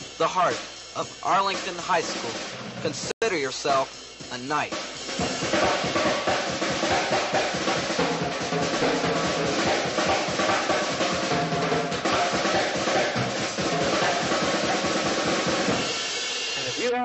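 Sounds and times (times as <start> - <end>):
snare and bass drums beat: 0.0 - 17.0.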